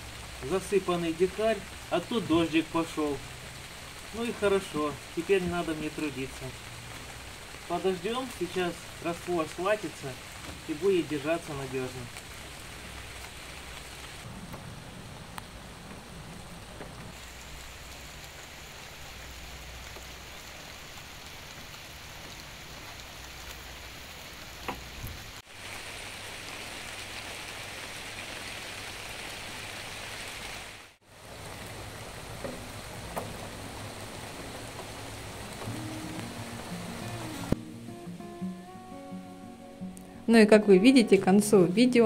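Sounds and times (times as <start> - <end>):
rain on stone paving: 0.0 - 39.0.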